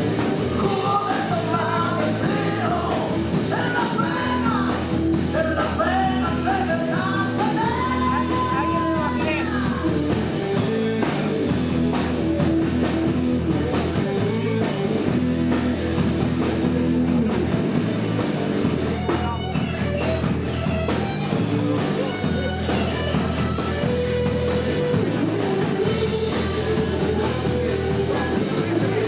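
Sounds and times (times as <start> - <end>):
bending guitar lead line: 0.0 - 29.0
blues-rock band playing: 0.0 - 29.0.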